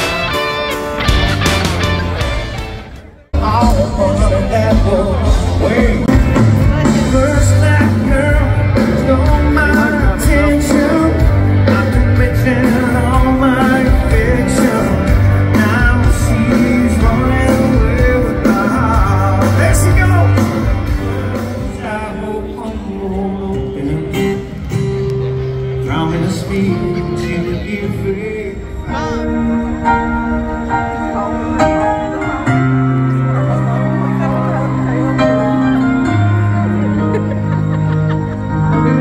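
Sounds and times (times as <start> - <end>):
rock song with singing: 0.0 - 39.0.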